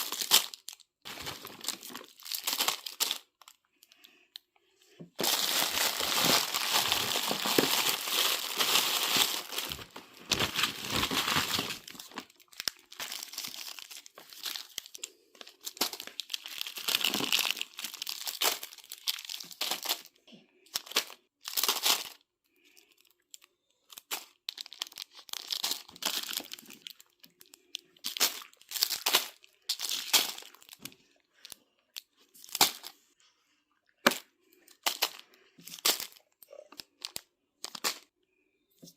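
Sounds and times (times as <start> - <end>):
candy wrappers crinkling and tearing: 0.0 - 4.5, 5.2 - 33.0, 34.0 - 38.1.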